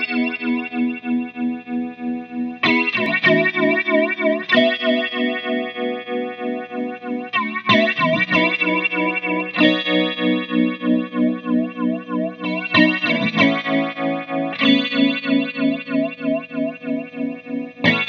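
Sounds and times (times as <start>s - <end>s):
flanged guitar chords: 0.0s - 18.0s.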